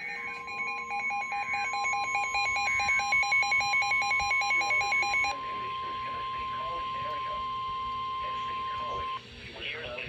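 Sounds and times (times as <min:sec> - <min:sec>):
loud high alarm beep: 0:00.0 - 0:08.3
rapid electronic alert beeping: 0:00.0 - 0:09.2.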